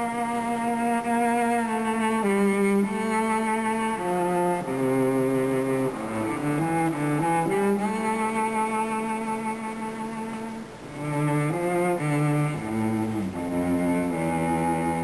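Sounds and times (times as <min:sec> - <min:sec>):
slow string melody: 0:00.0 - 0:15.0.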